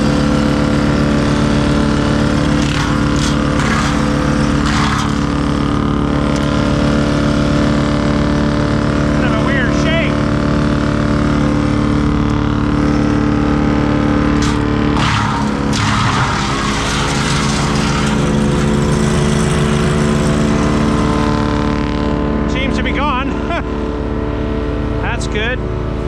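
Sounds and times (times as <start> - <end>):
chipper crunching a branch: 0.0 - 23.7
wood chipper engine running: 0.0 - 26.0.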